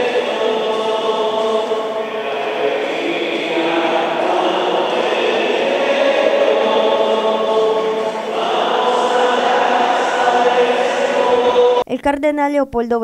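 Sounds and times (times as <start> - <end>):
voices singing slow chant: 0.0 - 11.9.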